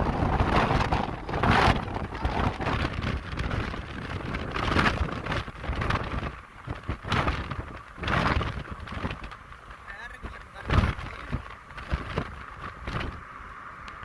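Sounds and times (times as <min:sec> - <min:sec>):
steady low rumble: 0:00.0 - 0:14.0
wind buffeting microphone: 0:00.0 - 0:14.0.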